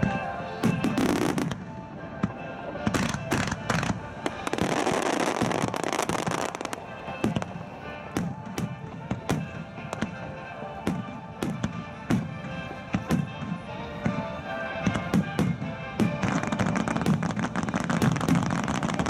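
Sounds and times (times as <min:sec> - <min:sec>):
fireworks crackling: 0:00.0 - 0:19.0
music over loudspeakers: 0:00.0 - 0:19.0.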